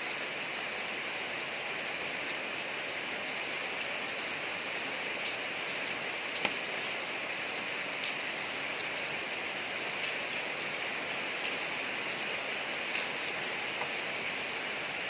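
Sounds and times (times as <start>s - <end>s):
rain hissing on street: 0.0s - 15.0s.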